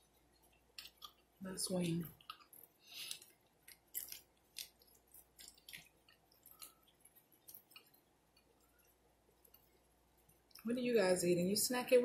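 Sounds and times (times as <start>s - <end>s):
person chewing food: 0.0s - 10.7s.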